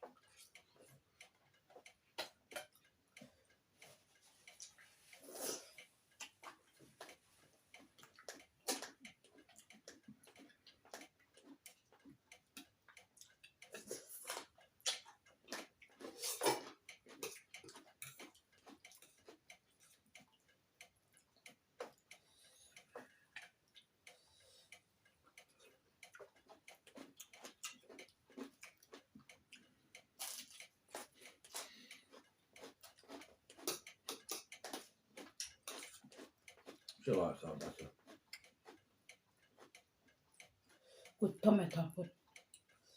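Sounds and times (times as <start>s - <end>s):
chewing clicks and crackles: 0.0s - 41.2s, 42.1s - 42.9s.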